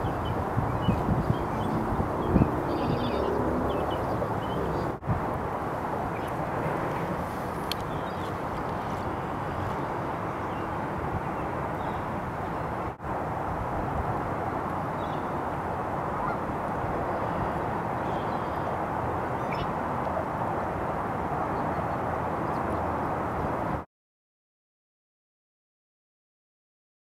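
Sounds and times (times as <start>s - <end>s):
outdoor background noise: 0.0s - 23.9s.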